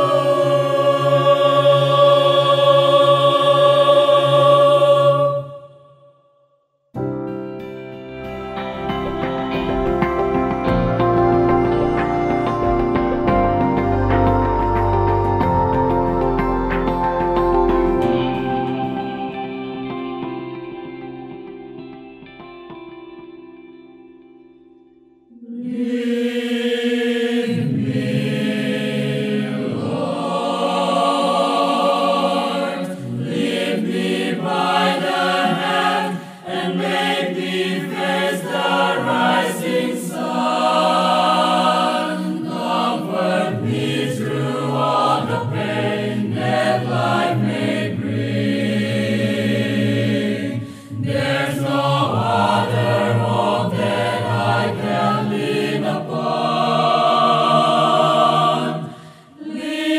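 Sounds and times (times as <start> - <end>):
choir singing a hymn: 0.0 - 6.0, 8.6 - 20.3, 25.3 - 59.9.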